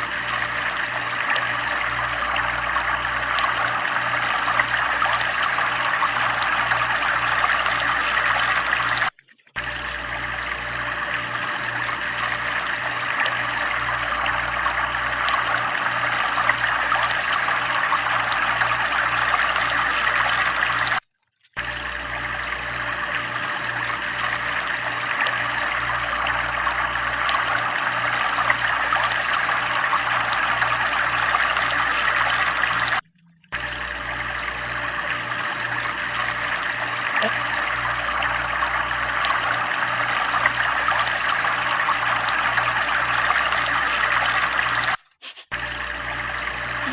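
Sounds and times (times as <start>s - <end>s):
water pouring and splashing: 0.0s - 46.9s.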